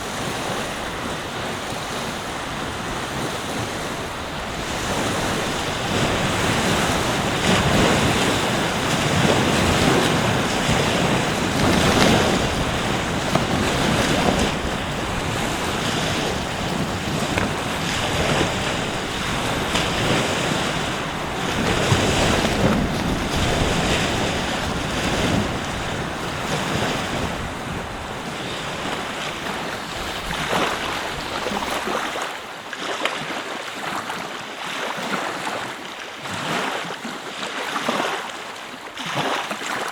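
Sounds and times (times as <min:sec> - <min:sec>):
wind buffeting microphone: 0:00.0 - 0:32.3
ocean surf washing ashore: 0:00.0 - 0:39.9.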